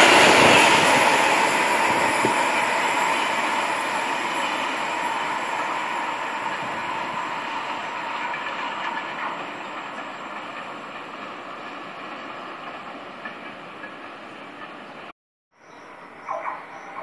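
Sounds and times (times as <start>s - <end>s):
train running on rails: 0.0s - 15.2s, 15.8s - 17.0s.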